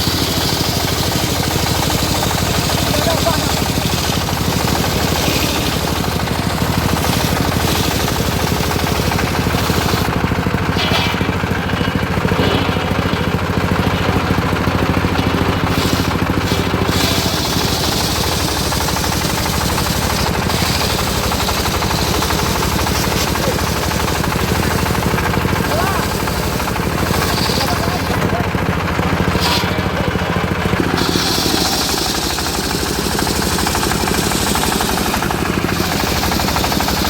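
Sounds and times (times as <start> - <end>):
sawmill engine running: 0.0 - 37.0.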